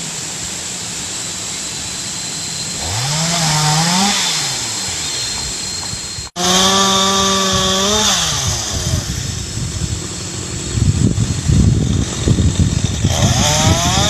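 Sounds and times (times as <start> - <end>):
chainsaw revving: 2.6 - 14.0.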